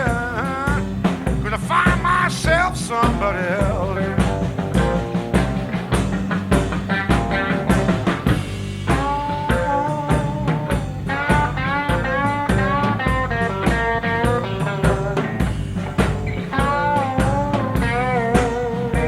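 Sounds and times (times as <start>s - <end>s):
bass guitar: 0.0s - 19.0s
drum kit steady beat: 0.0s - 19.0s
electric guitar bending notes: 0.0s - 19.0s.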